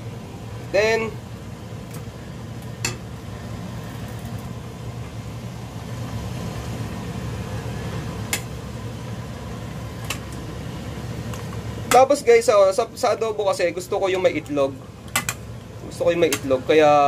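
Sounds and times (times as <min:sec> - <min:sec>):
induction cooktop humming: 0:00.0 - 0:17.0.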